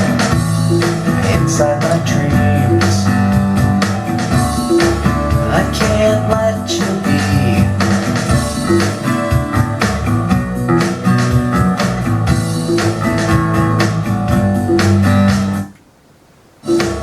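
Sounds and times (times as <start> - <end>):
instrumental rock music with guitar: 0.0 - 15.7, 16.7 - 17.0.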